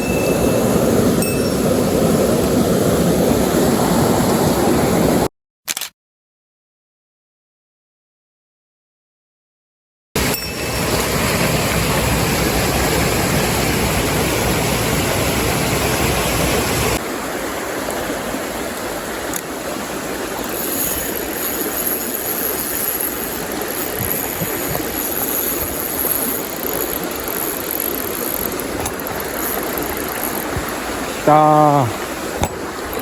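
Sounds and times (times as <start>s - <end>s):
stream water rushing: 0.0s - 5.3s, 10.2s - 33.0s.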